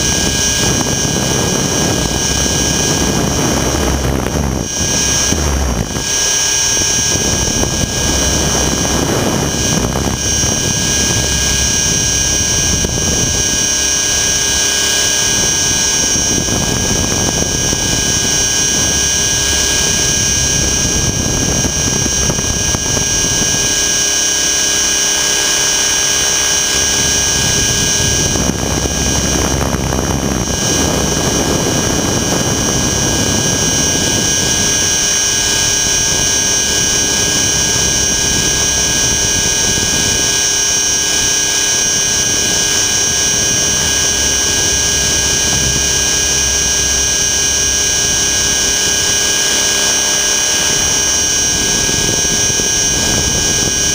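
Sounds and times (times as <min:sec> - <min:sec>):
low rumble: 0:00.0 - 0:25.0, 0:25.8 - 0:53.9
helicopter rotor noise: 0:00.0 - 0:53.9
high-pitched motor whine: 0:00.0 - 0:53.9.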